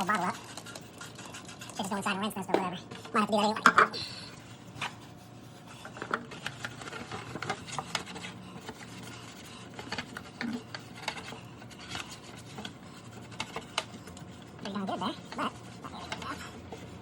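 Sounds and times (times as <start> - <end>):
scratchy scrubbing rubs: 0.0 - 17.0.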